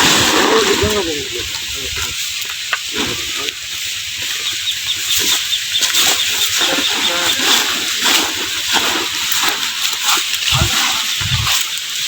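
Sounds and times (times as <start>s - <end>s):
corn sheller hiss and clatter: 0.0s - 12.0s.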